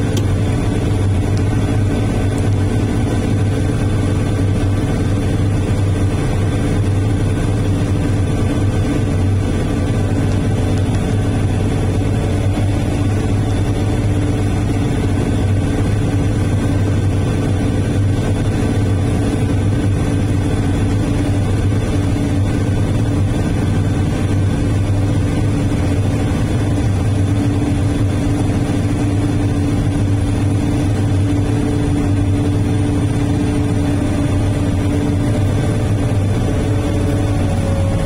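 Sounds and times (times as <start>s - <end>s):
diesel truck engine drone: 0.0s - 38.0s.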